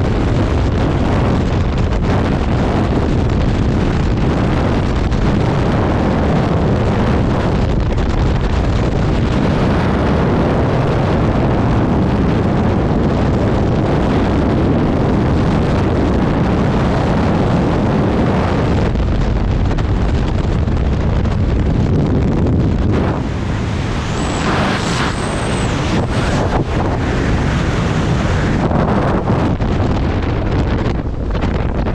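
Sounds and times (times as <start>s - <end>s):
freefall wind buffeting microphone: 0.0s - 31.9s.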